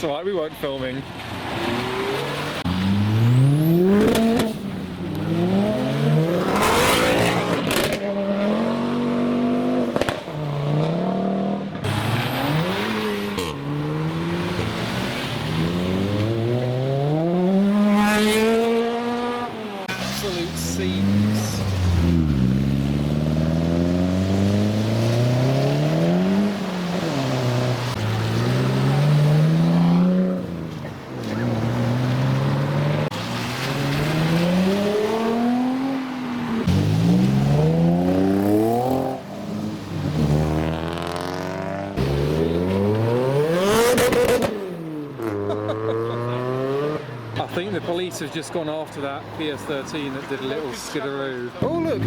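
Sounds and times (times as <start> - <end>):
car engines revving: 0.0 - 52.0
car passing close by: 1.1 - 47.4.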